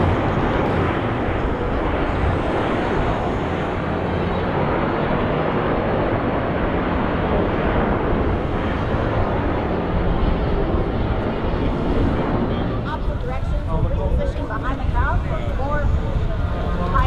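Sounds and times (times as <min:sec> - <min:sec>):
jet engines flying past: 0:00.0 - 0:17.0.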